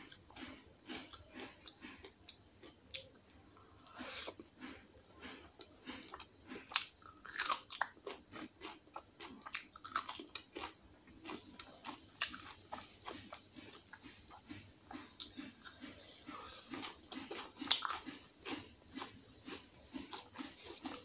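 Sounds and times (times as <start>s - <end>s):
crunchy biting and chewing: 0.0s - 21.0s.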